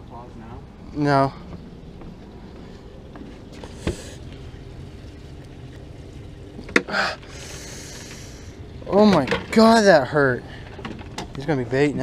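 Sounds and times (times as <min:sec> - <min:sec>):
low outdoor background noise: 0:00.0 - 0:12.0.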